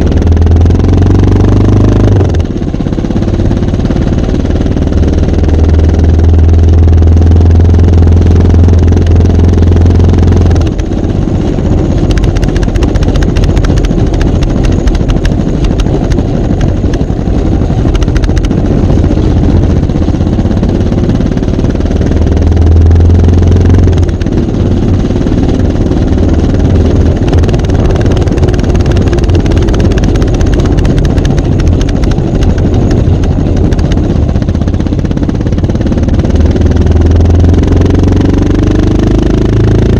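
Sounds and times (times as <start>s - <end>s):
motorcycle engine running: 0.0s - 39.9s
strong low drone: 0.0s - 39.9s.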